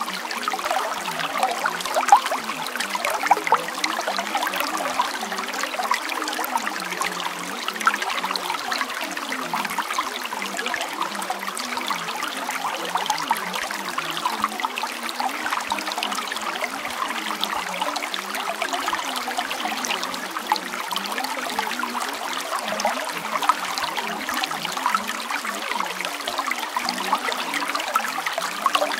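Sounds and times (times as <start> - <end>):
water trickling and babbling: 0.0 - 28.9.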